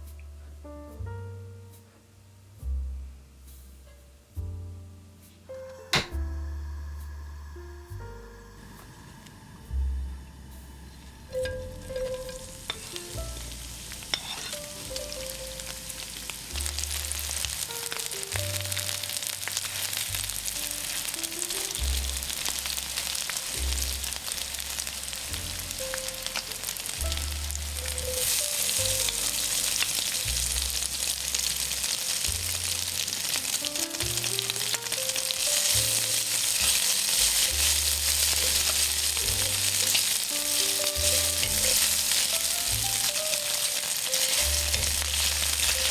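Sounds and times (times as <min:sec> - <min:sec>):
food sizzling in hot oil: 0:05.9 - 0:07.3, 0:10.4 - 0:45.9.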